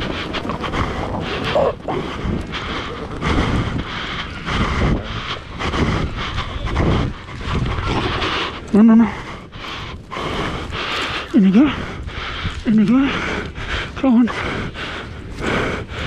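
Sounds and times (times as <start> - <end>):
running footsteps on sand: 0.0 - 16.0
wind buffeting microphone: 0.0 - 16.0.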